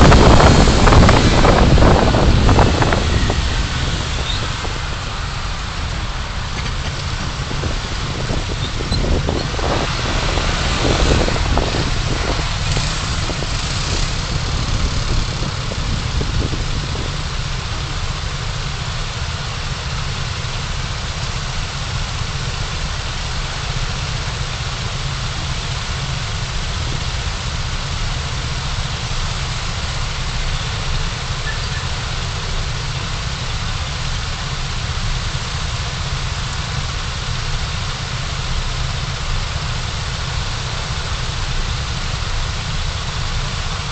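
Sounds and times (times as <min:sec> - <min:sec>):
car engine rumble in cabin: 0:00.0 - 0:43.9
road traffic noise: 0:00.0 - 0:43.9.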